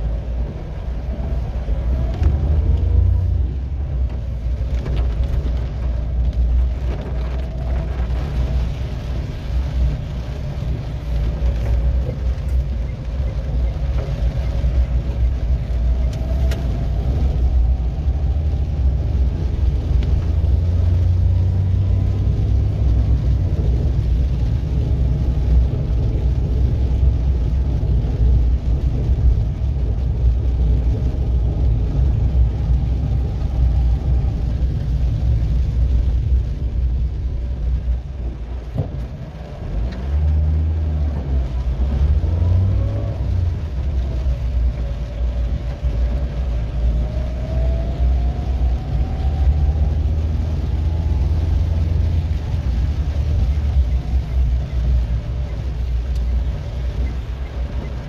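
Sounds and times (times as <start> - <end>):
engine and road rumble: 0.0 - 58.0
rain hissing: 0.0 - 58.0
wet tyres on road: 0.0 - 58.0.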